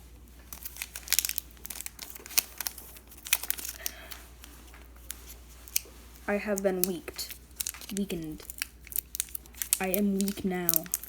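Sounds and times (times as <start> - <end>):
foil wrapper crinkling and tearing: 0.4 - 11.0.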